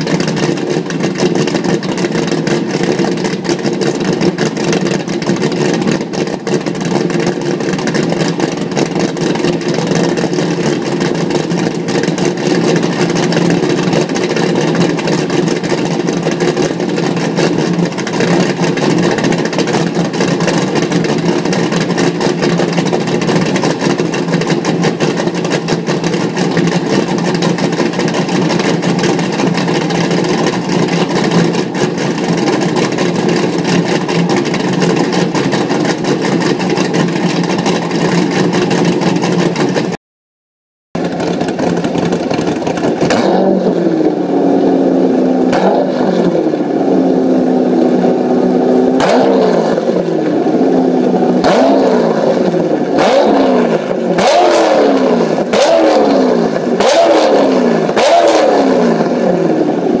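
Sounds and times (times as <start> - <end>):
car engine idling loudly: 0.0 - 40.0, 40.9 - 60.0
engine revving: 0.0 - 40.0, 41.0 - 59.8.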